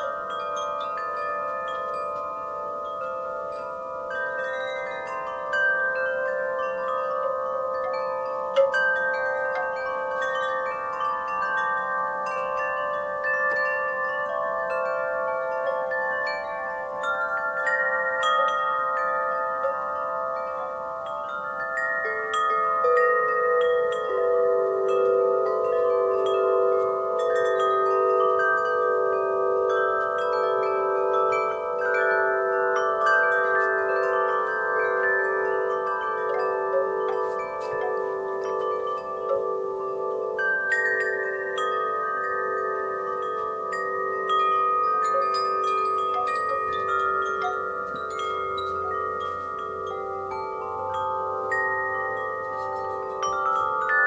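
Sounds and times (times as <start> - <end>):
wind chimes ringing: 0.0 - 54.0.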